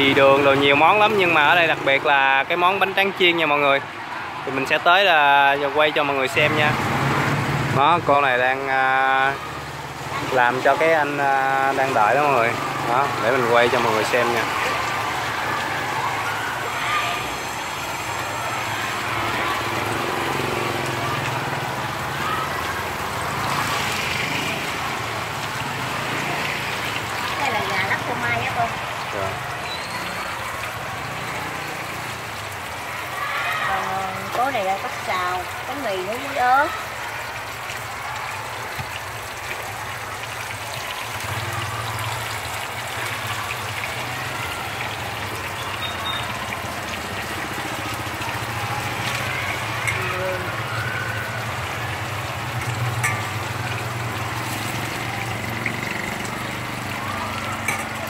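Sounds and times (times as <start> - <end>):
hot oil sizzling in a deep fryer: 0.0 - 58.0.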